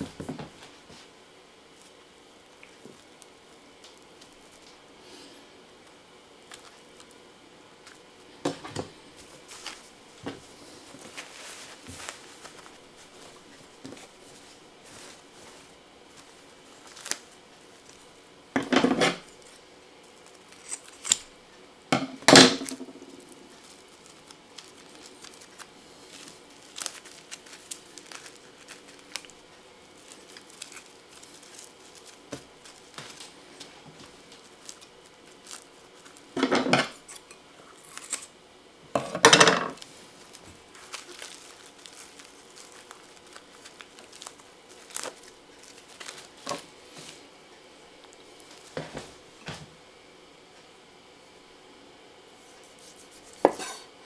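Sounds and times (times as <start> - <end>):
plastic wrap crinkling: 0.0 - 5.0, 5.7 - 21.5, 22.3 - 38.4, 39.1 - 47.3, 48.0 - 49.6.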